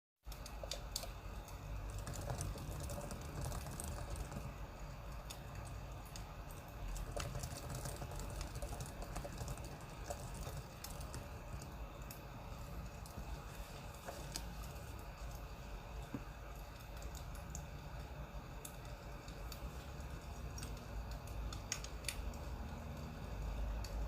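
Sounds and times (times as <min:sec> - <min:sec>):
light clicks and crackles: 0:00.3 - 0:24.0.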